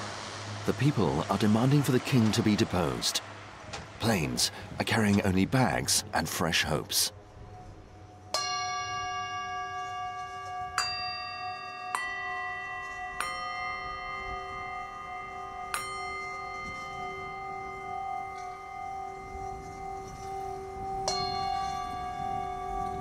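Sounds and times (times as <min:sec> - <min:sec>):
bells ringing: 0:04.0 - 0:23.0.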